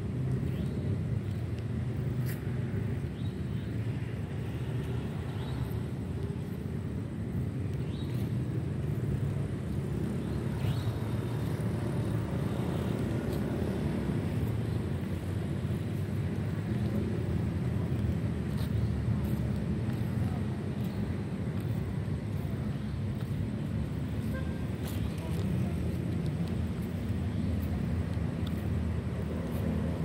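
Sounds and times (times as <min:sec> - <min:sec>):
distant road traffic rumble: 0:00.0 - 0:30.0.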